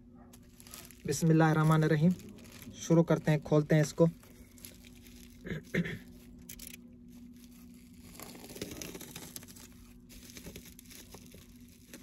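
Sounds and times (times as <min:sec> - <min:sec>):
steady low hum: 0:00.0 - 0:12.0
packaging rustling and tearing: 0:00.4 - 0:12.0.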